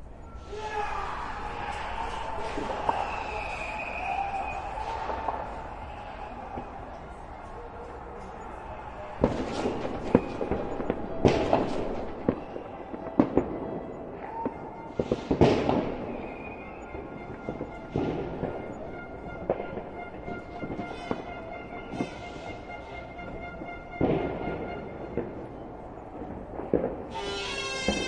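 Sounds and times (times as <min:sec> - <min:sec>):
sharp bangs: 0:00.0 - 0:28.0
stadium crowd cheering: 0:00.0 - 0:28.0.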